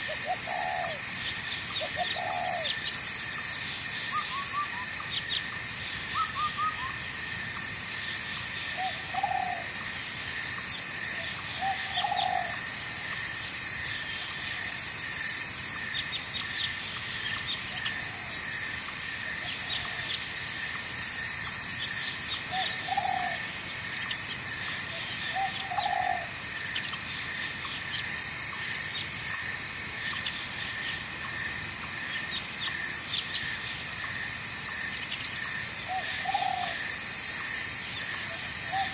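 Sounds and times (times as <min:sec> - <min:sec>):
insect chorus with trills: 0:00.0 - 0:38.9.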